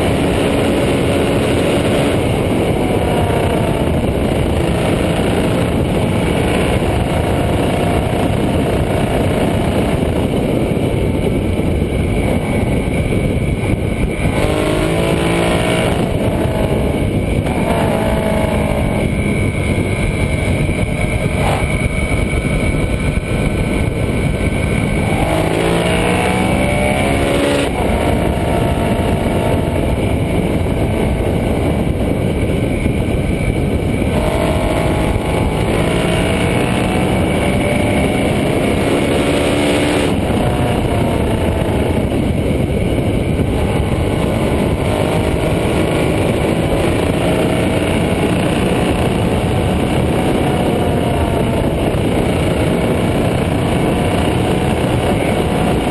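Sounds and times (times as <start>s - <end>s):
motorcycle engine accelerating: 0.0s - 55.9s
wind noise: 0.0s - 55.9s.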